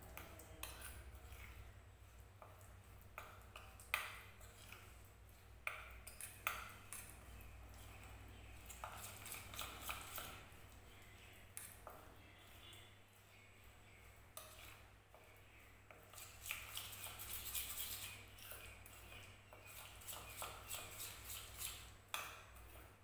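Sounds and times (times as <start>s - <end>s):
spoon scraping paste: 0.0s - 23.0s.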